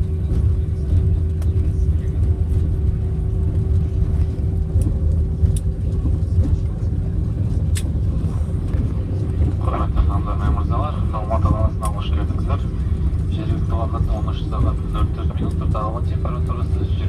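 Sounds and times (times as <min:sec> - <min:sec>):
aircraft engines rumbling: 0:00.0 - 0:17.0
steady hum: 0:00.0 - 0:17.0.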